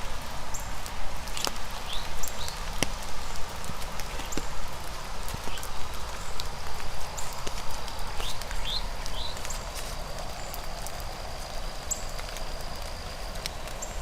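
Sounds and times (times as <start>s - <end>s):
footsteps on wet trail: 0.0s - 14.0s
steady rain hissing: 0.0s - 14.0s.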